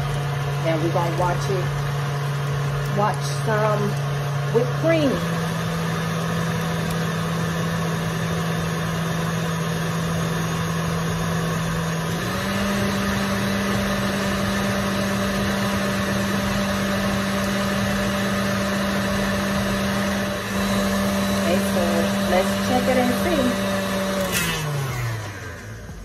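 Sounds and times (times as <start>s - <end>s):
stand mixer motor hum: 0.0s - 26.0s.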